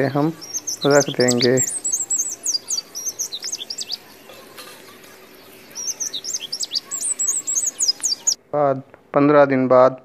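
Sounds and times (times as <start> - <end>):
small birds chirping: 0.0 - 8.4.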